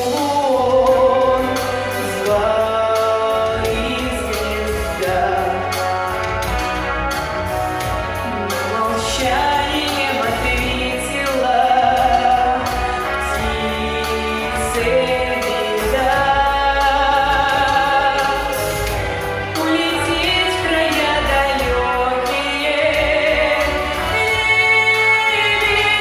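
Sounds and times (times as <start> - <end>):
instrumental backing with bass and beat: 0.0 - 26.0.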